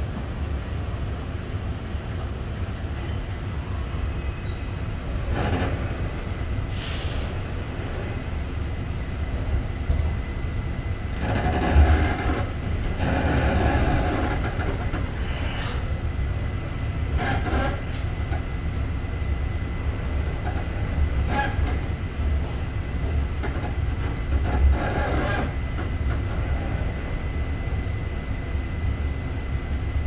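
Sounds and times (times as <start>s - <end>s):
subway train rumble: 0.0s - 30.0s.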